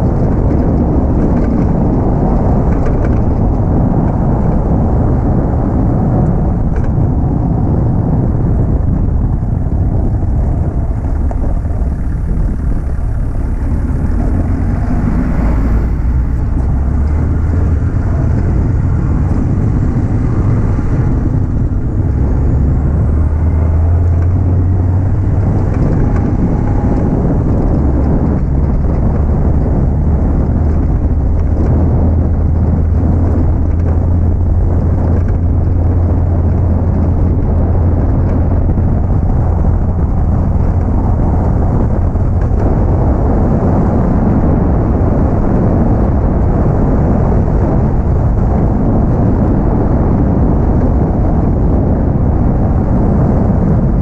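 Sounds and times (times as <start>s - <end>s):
tyre and road noise on gravel: 0.0s - 54.0s.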